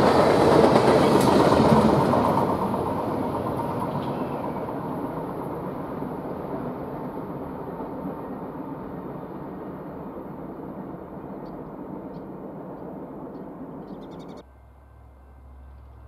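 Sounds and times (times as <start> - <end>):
train going away: 0.0 - 16.0.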